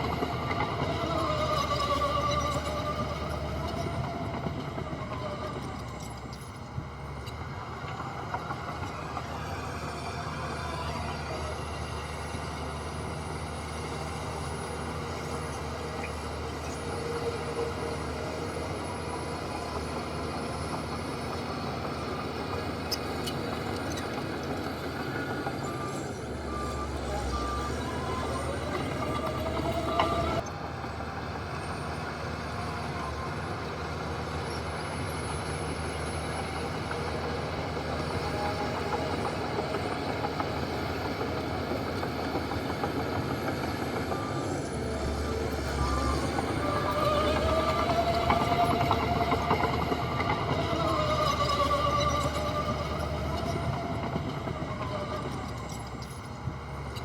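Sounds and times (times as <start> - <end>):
heavy diesel engines running: 0.0 - 57.0
truck reversing alarm beeping: 0.0 - 57.0.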